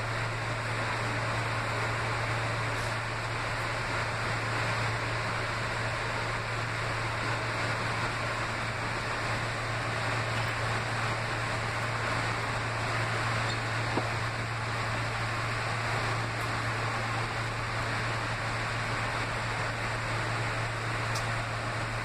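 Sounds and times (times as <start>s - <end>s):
constant low hum: 0.0s - 22.0s
subway train rumbling and hissing: 0.0s - 22.0s.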